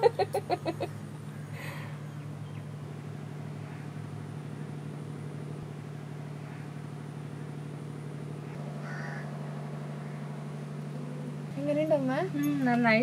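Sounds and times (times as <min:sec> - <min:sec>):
low sustained music drone: 0:00.0 - 0:13.0.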